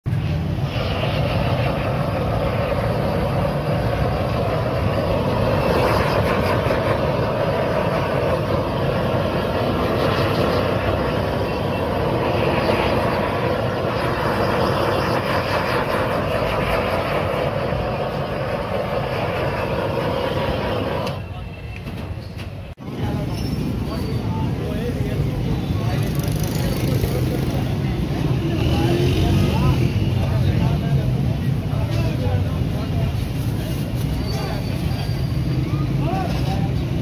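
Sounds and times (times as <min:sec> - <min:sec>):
gas torch rushing: 0:00.1 - 0:37.0.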